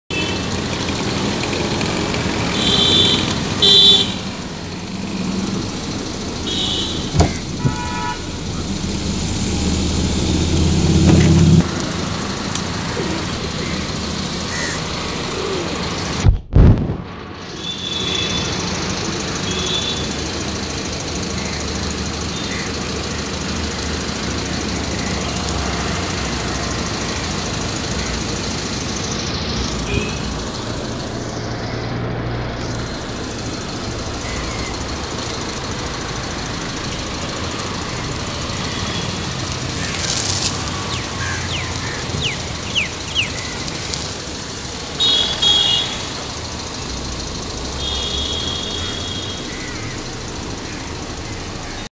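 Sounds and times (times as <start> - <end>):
road traffic: 0.0 - 51.9.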